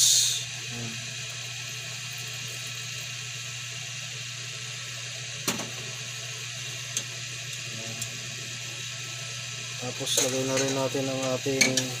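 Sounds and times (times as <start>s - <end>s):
soup simmering hiss: 0.0s - 12.0s.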